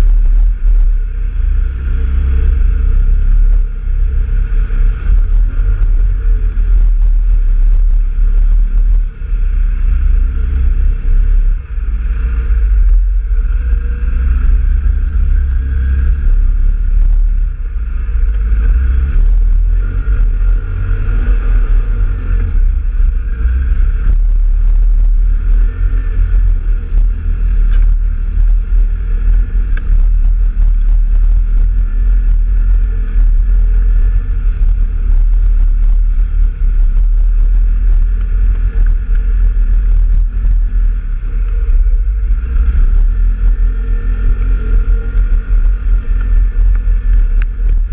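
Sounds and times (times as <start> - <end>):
off-road vehicle engine running: 0.0 - 47.9
wind buffeting microphone: 0.0 - 47.9.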